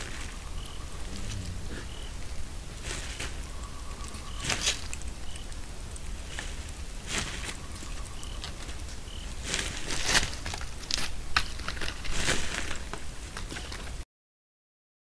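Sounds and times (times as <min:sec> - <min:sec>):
crackling and rustling: 0:00.0 - 0:14.0.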